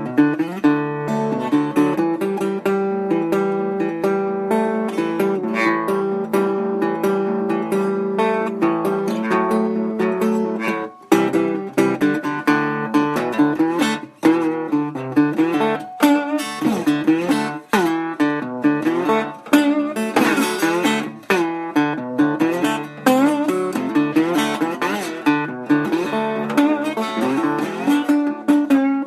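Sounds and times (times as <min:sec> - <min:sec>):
acoustic slide guitar: 0:00.0 - 0:29.0.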